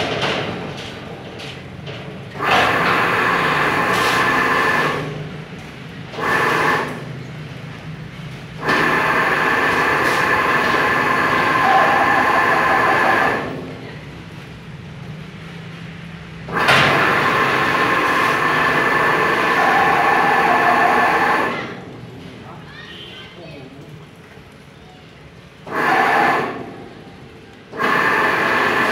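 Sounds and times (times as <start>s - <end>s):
plate rolling machine running: 0.0s - 22.7s, 25.6s - 28.9s.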